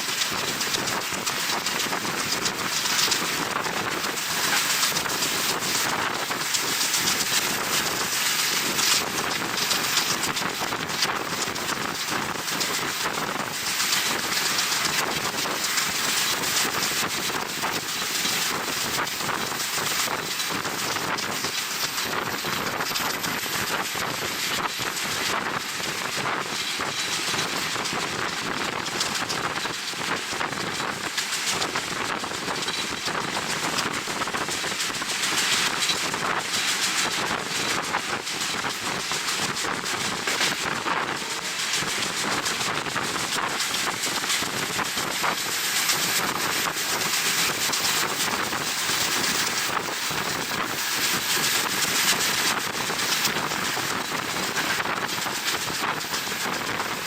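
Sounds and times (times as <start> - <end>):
wind rushing over microphone: 0.1 - 57.0.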